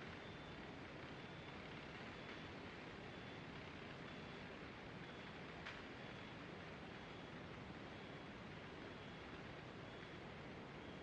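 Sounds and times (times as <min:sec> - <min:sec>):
light aircraft engine in cockpit: 0:00.0 - 0:11.0.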